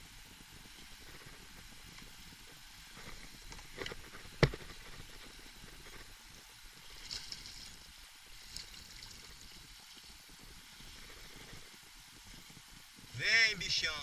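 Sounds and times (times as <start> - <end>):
water lapping around kayak: 0.0 - 13.3.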